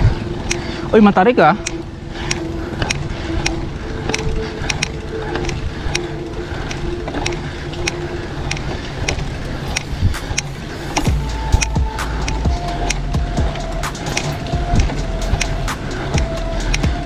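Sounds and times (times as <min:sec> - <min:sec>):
bicycle pedal clicks: 0:00.0 - 0:17.0
low rumble: 0:00.0 - 0:17.0
road and wind noise: 0:00.0 - 0:17.0.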